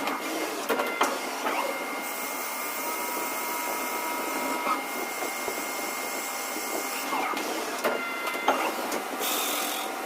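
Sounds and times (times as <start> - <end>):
cnc machine whirring: 0.0 - 10.0.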